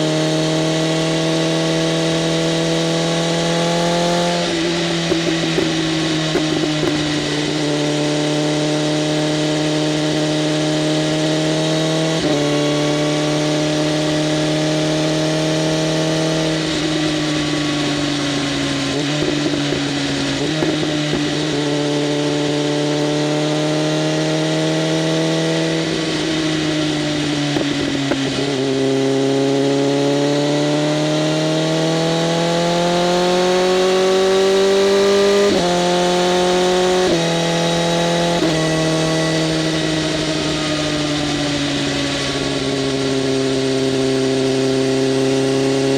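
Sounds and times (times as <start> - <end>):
motorcycle engine revving: 0.0 - 45.9
wind and road noise: 0.0 - 45.9.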